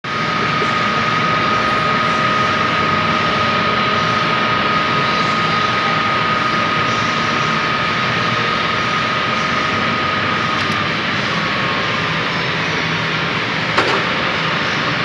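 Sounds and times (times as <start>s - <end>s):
milling machine running: 0.1s - 15.0s
spindle drive high whine: 0.1s - 15.0s.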